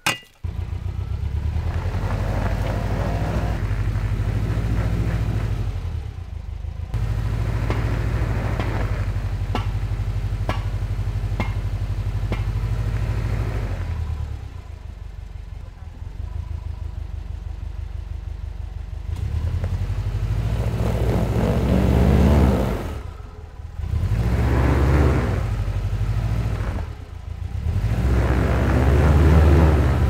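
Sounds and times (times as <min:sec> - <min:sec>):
car engine running under load: 0:00.0 - 0:30.0.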